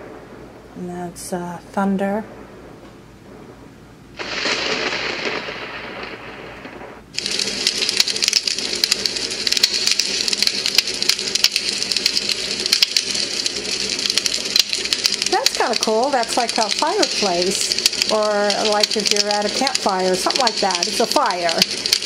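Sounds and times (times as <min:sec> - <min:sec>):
recorded fire crackling and popping: 0:00.0 - 0:22.0
recorded thunder rolling: 0:00.0 - 0:22.0.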